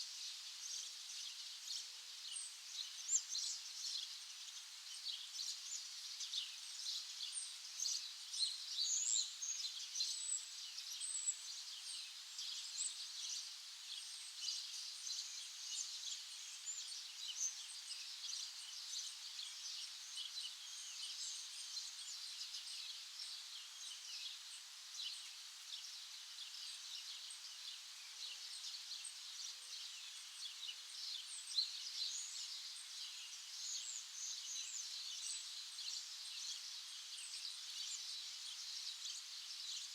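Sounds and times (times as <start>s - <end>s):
small birds chirping: 0.2s - 39.9s.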